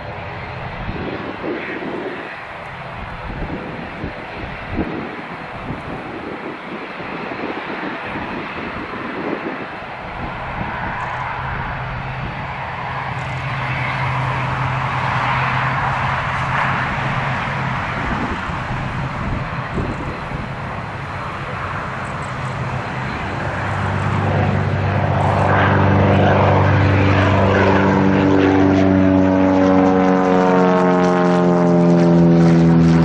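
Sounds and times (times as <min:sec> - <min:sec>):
turboprop engines and propellers: 0:00.0 - 0:33.0.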